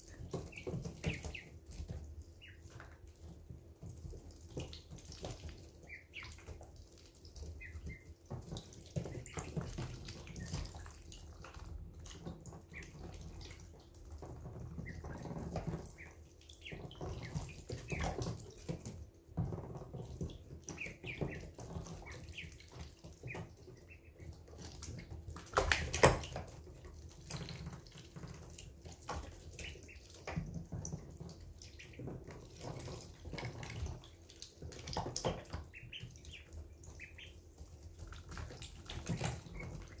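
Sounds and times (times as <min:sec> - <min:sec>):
ducklings splashing and slurping water: 0:00.0 - 0:40.0
soft duckling peeps: 0:00.0 - 0:40.0.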